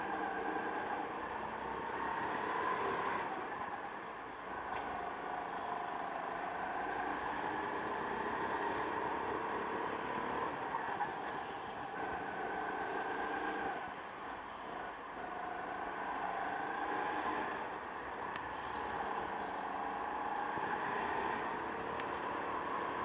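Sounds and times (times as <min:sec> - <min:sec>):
go-kart engine revving: 0:00.0 - 0:23.0.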